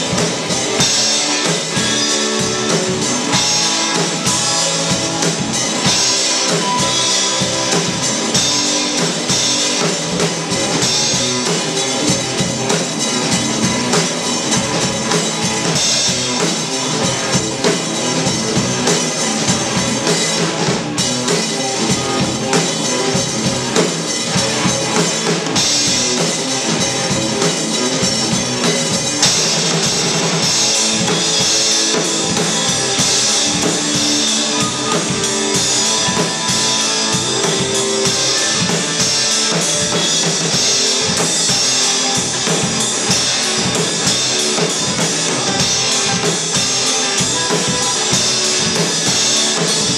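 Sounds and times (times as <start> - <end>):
drum kit beat: 0.0 - 49.9
electric guitars: 0.0 - 49.9.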